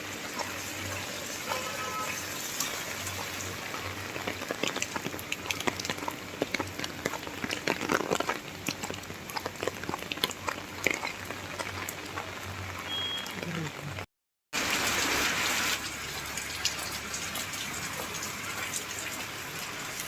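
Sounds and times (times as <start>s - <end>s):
rain tapping on hard surface: 0.0s - 20.0s.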